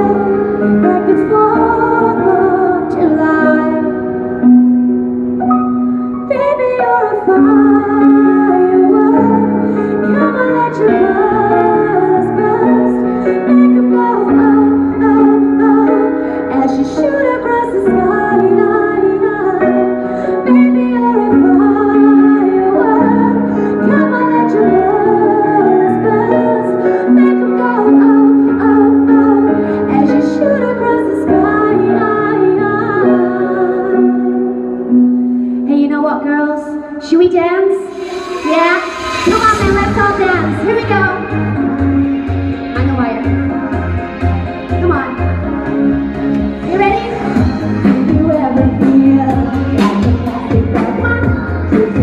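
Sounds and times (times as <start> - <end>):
woman singing: 0.0 - 4.1, 6.2 - 34.6, 35.7 - 41.4, 46.6 - 52.0
backing track with piano: 0.0 - 52.0.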